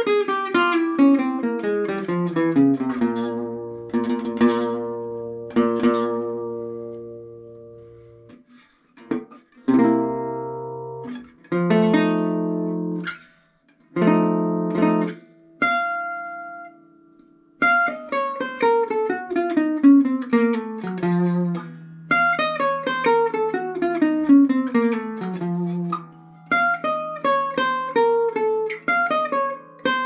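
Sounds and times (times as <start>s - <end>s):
guitar chords strummed: 0.0s - 8.4s, 9.0s - 30.0s.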